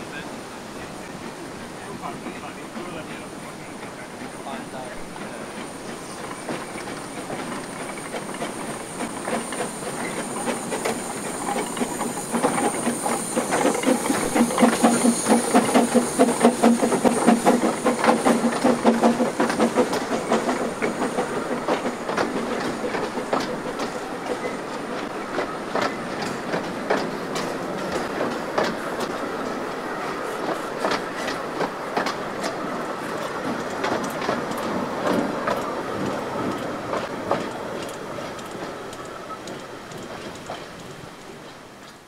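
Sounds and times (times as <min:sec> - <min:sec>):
steam hiss: 0:00.0 - 0:42.0
steam locomotive exhaust beats: 0:00.9 - 0:42.0
wheels clattering over rail joints: 0:03.8 - 0:42.0.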